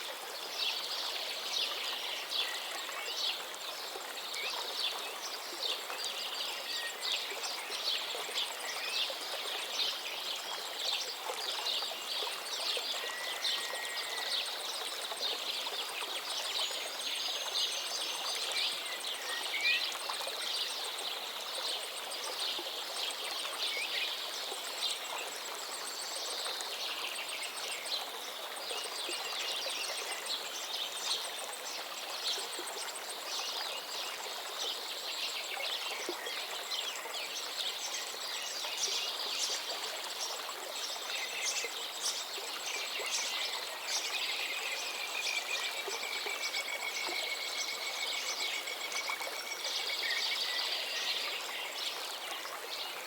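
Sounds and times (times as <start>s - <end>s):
flowing water: 0.0s - 53.0s.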